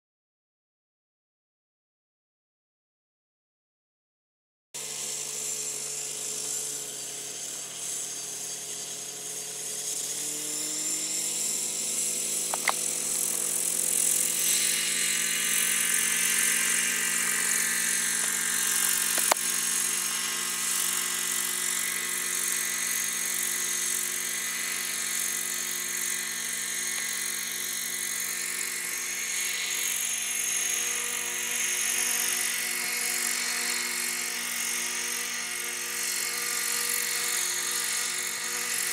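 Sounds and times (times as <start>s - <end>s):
model helicopter engine and rotor: 4.8s - 38.9s.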